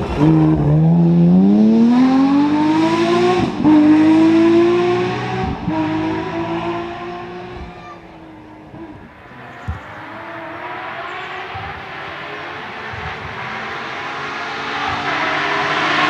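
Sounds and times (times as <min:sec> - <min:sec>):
distant rally car engine: 0:00.0 - 0:16.0.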